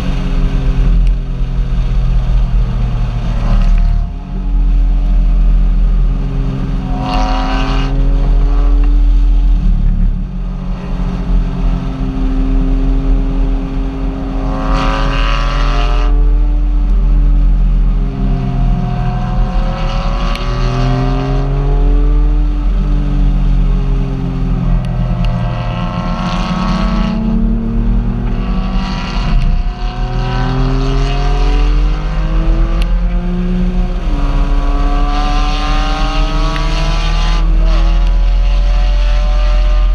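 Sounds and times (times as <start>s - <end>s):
car engine revving: 0.0s - 39.9s
heavy low rumble: 0.0s - 39.9s.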